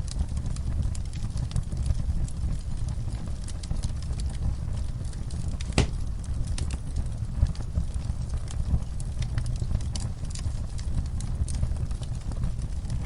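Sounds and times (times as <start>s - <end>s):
low rumble of fire: 0.0s - 13.0s
wood fire crackling and popping: 0.0s - 13.0s.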